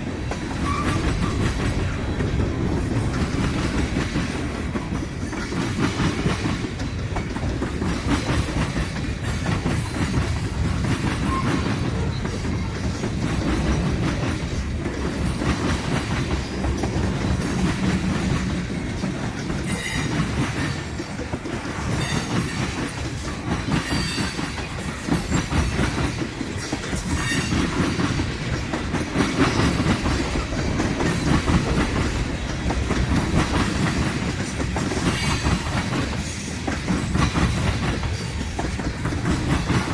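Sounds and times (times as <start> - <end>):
train rumbling past: 0.0 - 39.9
wheels clicking over rail joints: 0.0 - 39.9
train wheel squeals: 0.4 - 2.1, 4.8 - 39.9.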